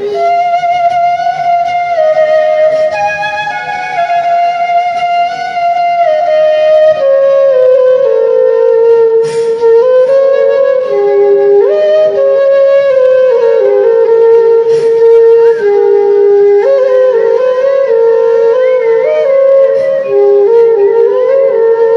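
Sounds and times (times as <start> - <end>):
slow flute melody: 0.0 - 21.9.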